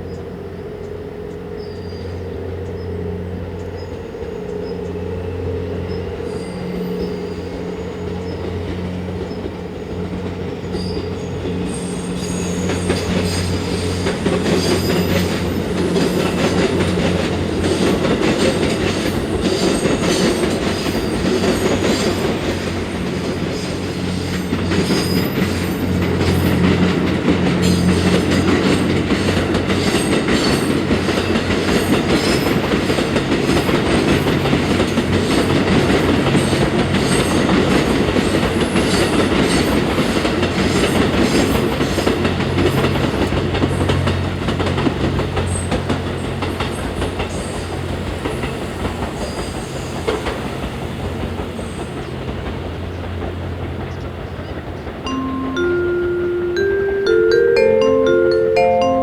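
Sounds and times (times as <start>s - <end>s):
train engine hum: 0.0s - 59.0s
train wheels clacking on rail joints: 0.1s - 55.7s.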